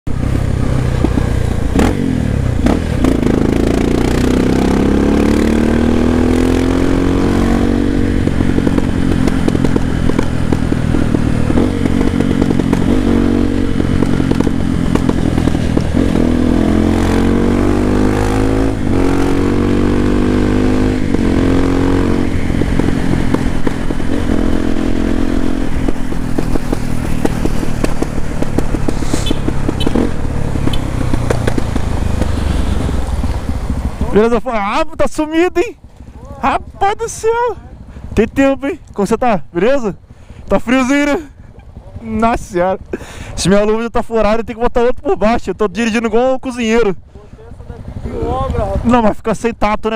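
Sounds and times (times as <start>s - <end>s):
motorcycle engine accelerating: 0.1s - 49.6s.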